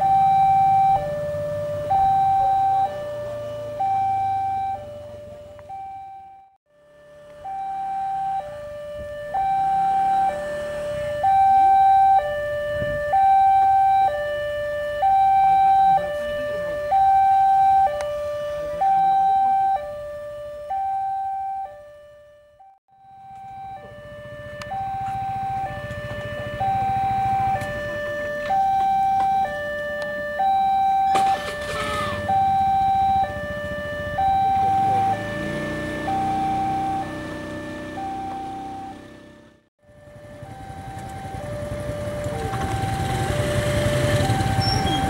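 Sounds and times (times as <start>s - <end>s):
level crossing two-tone alarm: 0.0s - 45.0s.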